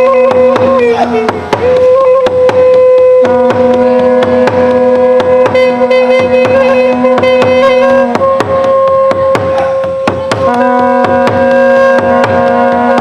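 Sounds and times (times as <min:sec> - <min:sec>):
held wavering melody: 0:00.0 - 0:13.0
steady drum strikes: 0:00.0 - 0:13.0.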